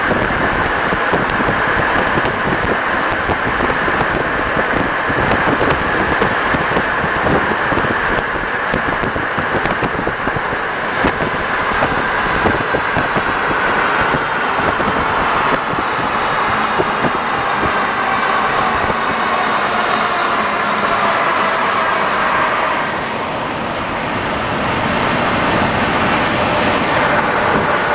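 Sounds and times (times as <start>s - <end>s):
high hum: 0.0s - 27.9s
metro train running: 0.0s - 27.9s.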